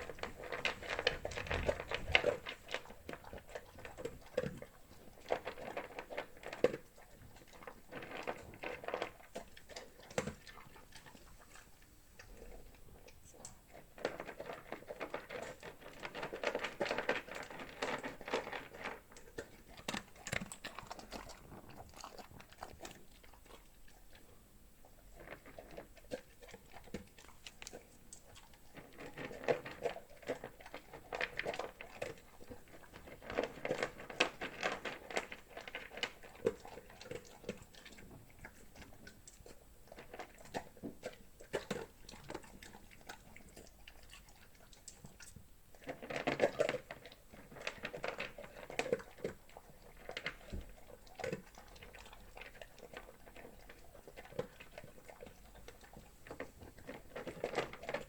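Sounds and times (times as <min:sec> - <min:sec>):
dog chewing dry kibble: 0:00.0 - 0:58.0.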